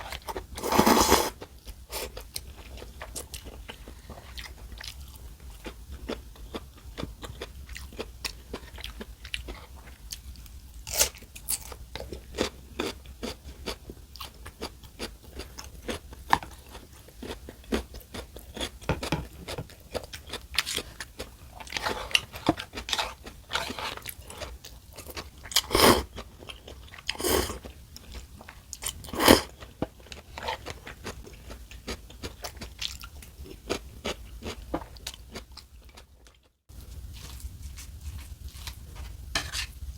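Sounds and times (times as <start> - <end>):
person chewing food: 0.0 - 39.1.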